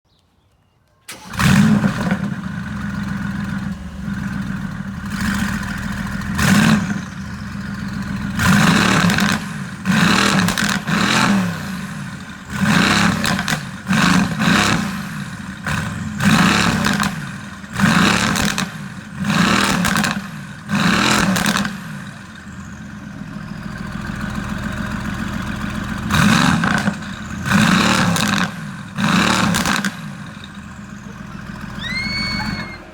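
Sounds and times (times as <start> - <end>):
car engine idling and revving: 1.1 - 32.9
car engine starting: 1.1 - 32.9.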